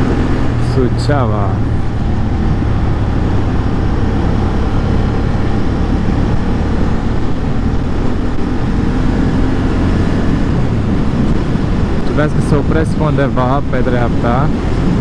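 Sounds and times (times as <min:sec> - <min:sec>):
motorcycle engine and wind rumble: 0:00.0 - 0:15.0.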